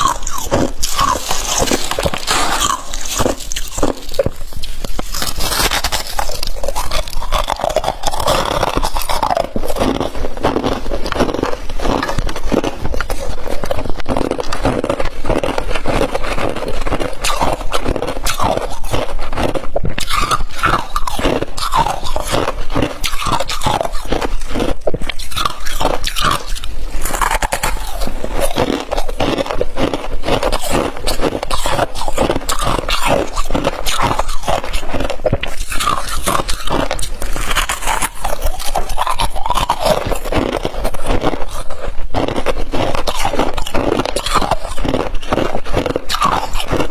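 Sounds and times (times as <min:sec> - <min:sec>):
frost crunching and squeaking: 0:00.0 - 0:46.9.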